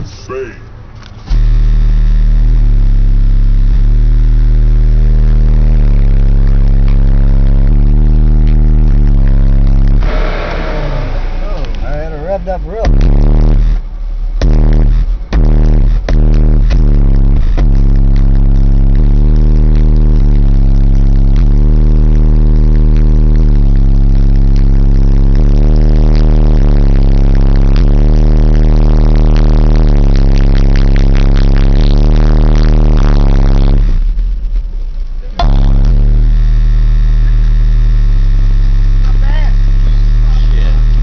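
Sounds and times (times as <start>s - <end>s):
loud deep bass music: 0.0s - 41.0s.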